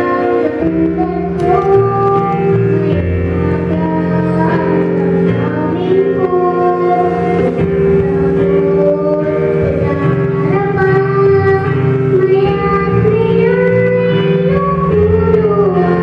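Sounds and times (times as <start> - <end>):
girl singing into a microphone: 0.0 - 16.0
instrumental accompaniment: 0.0 - 16.0.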